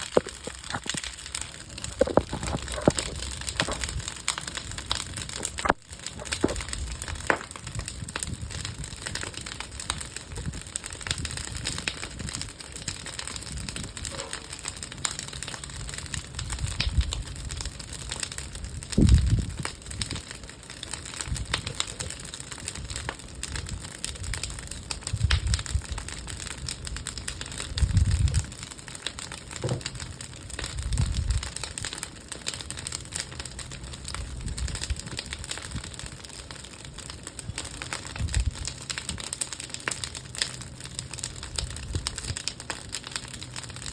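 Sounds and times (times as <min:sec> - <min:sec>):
bonfire crackling and popping: 0:00.0 - 0:43.9.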